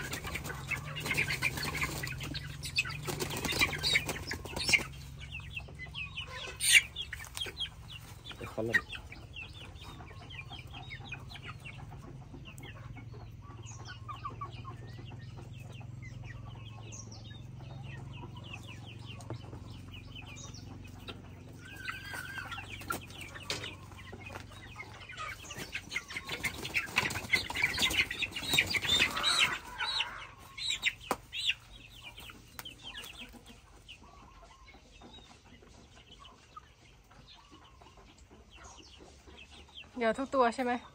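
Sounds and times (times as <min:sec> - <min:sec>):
young chickens clucking and peeping: 0:00.0 - 0:40.9.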